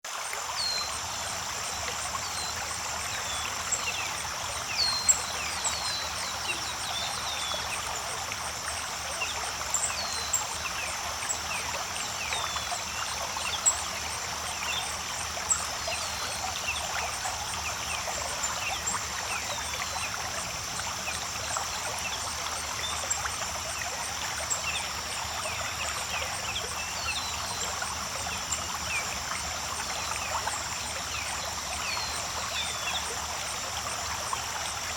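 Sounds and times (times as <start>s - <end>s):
creek trickling over rocks: 0.0s - 34.9s.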